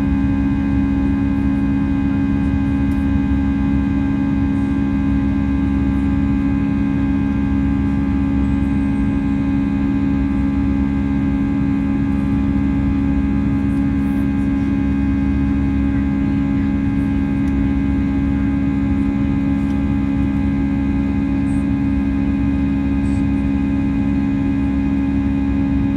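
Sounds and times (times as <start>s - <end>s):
aircraft cabin engine drone: 0.0s - 25.9s.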